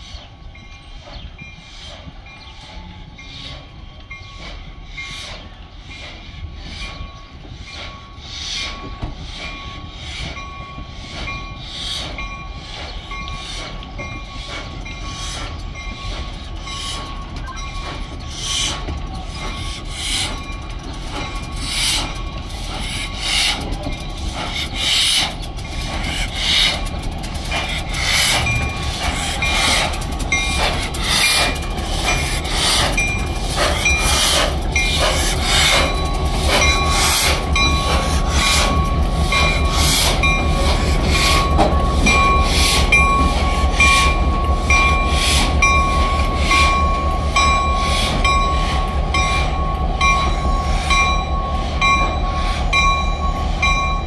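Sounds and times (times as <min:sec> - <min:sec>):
steam locomotive rolling past: 0:00.0 - 0:54.0
rhythmic clanking: 0:04.0 - 0:54.0.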